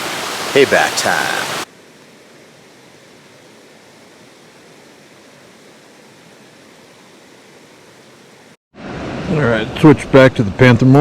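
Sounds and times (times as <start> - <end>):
creek water rushing: 0.0 - 9.5.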